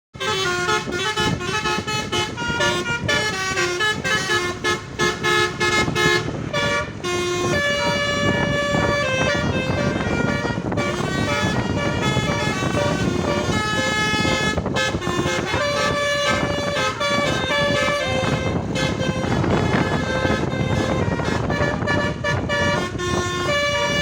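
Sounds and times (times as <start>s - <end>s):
multi-tone air horns playing melody: 0.2s - 24.0s.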